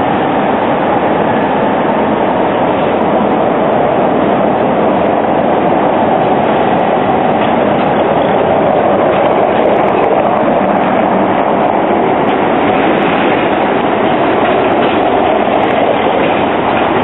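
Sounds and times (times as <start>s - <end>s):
tram wheels on rails: 0.0s - 17.0s.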